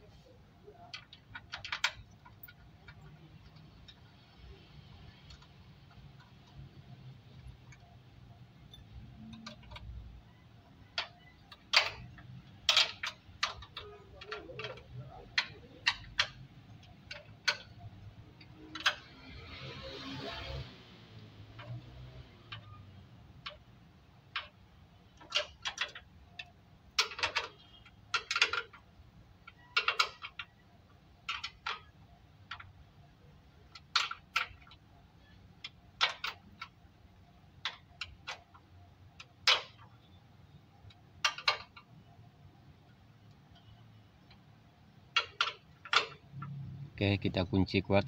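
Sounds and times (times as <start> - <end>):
ring spanner clicking on bolts: 0.6 - 8.0, 8.6 - 42.0, 43.2 - 46.6.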